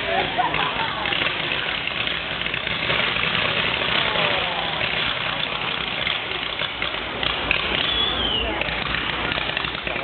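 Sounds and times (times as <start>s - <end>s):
crowd chatter: 0.0s - 10.0s
firework fountains hissing and crackling: 0.0s - 10.0s.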